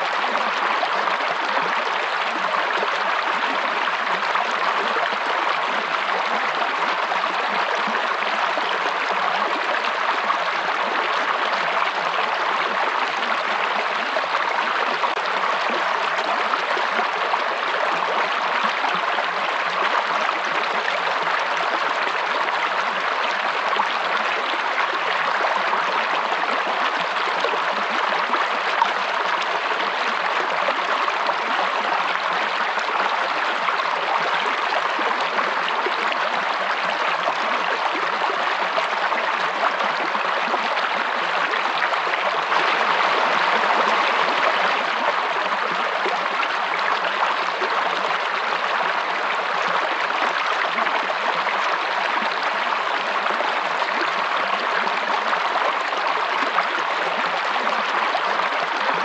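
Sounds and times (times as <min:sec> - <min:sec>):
stream of water flowing: 0:00.0 - 0:59.0.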